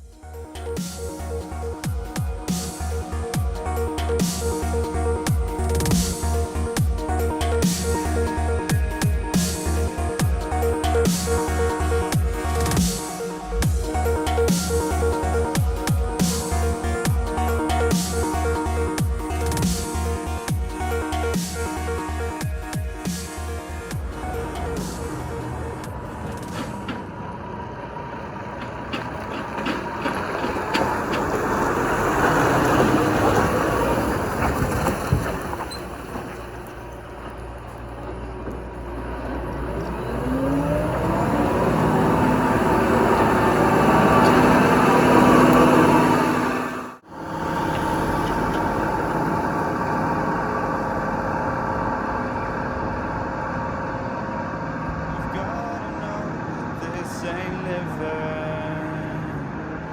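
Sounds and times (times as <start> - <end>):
truck approaching on road: 0.0 - 59.9.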